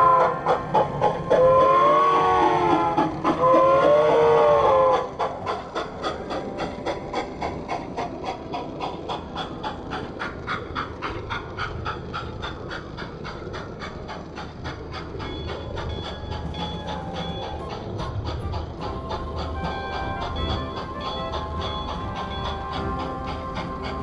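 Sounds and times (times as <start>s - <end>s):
model steam locomotive running: 0.0s - 24.0s.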